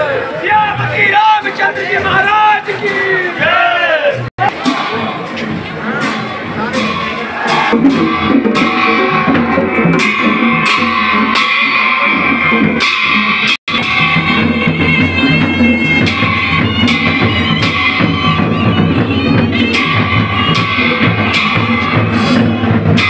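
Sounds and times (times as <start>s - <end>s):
drum strokes: 0.5s - 23.0s
sustained melody notes: 4.2s - 23.0s.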